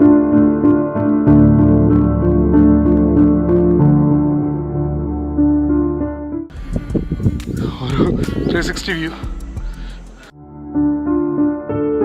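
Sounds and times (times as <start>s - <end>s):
soft ambient keyboard chords: 0.0s - 12.0s.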